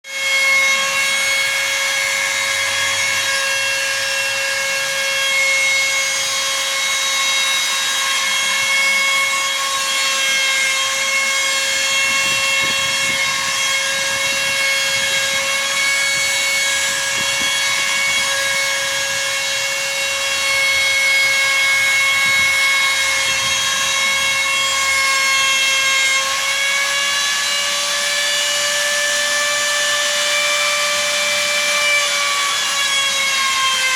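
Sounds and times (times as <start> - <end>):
router spindle high whine: 0.0 - 33.9.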